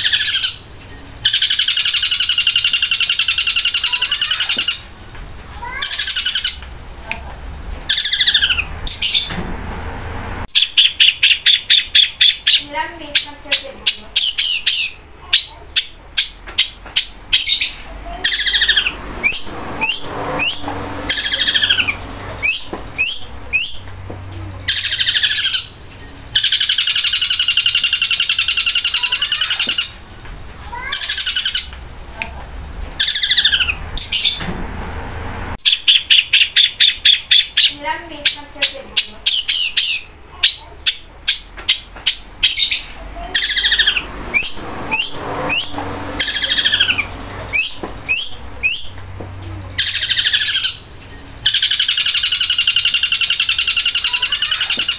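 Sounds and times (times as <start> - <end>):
bird singing downward notes: 0.0 - 4.9, 7.9 - 9.4, 10.5 - 24.0, 24.6 - 30.0, 33.0 - 34.5, 35.5 - 49.0, 49.6 - 54.9.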